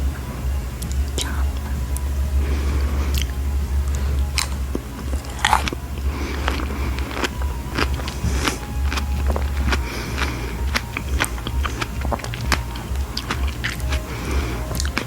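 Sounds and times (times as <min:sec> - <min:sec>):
steady low hum: 0:00.0 - 0:15.0
chewing strawberries: 0:00.7 - 0:15.0
wet crunches: 0:02.4 - 0:15.0.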